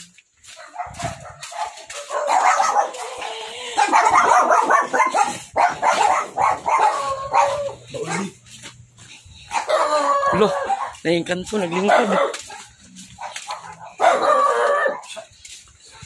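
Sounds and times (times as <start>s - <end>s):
dog barking and yapping: 0.5s - 8.6s, 9.5s - 15.3s.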